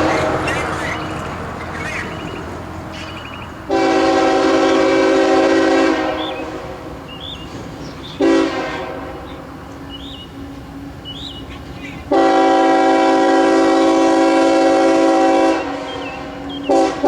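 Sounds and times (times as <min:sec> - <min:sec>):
locomotive air horn blasts: 0:00.0 - 0:07.0, 0:08.1 - 0:11.0, 0:11.9 - 0:17.0
train rumbling past: 0:00.0 - 0:17.0.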